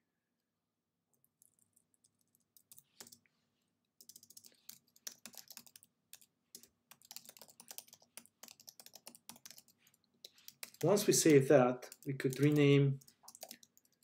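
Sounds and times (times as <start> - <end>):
faint typing on keyboard: 1.1 - 14.0.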